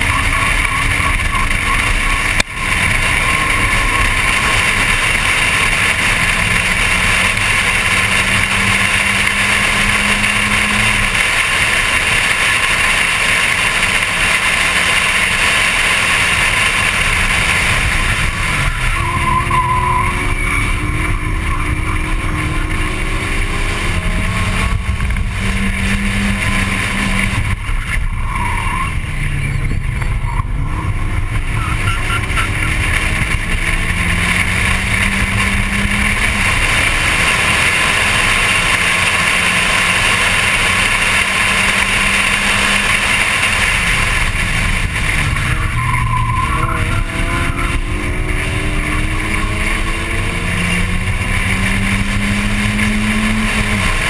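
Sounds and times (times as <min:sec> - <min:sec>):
car engine revving through gears: 0:00.0 - 0:54.0
wind and road noise: 0:00.0 - 0:54.0.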